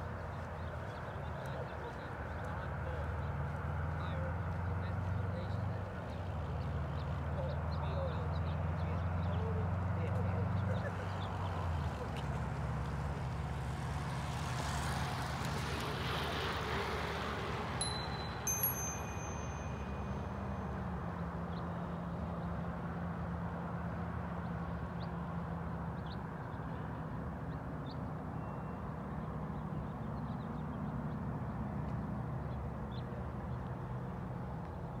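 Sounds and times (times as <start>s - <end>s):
distant road traffic rumble: 0.0s - 35.0s
vehicle engine hum: 0.0s - 35.0s.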